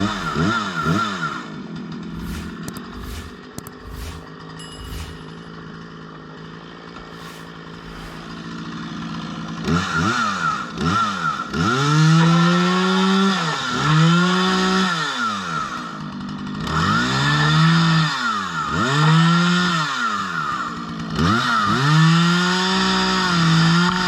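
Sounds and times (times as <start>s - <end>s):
chainsaw idling and revving: 0.0s - 24.0s.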